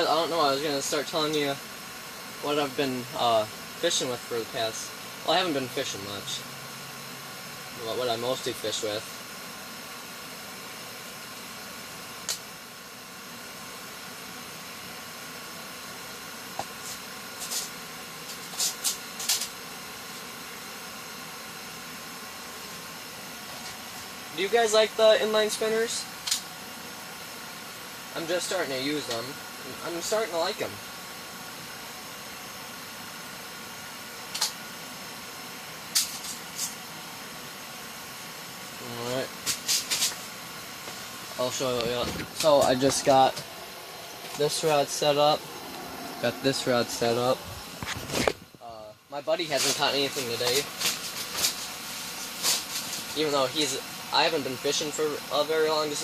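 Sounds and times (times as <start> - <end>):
heater hissing: 0.0 - 56.0.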